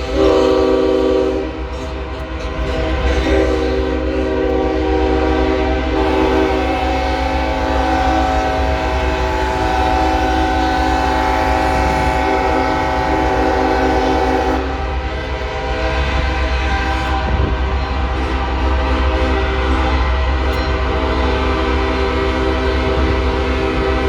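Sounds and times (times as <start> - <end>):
locomotive air horns: 0.0 - 24.0.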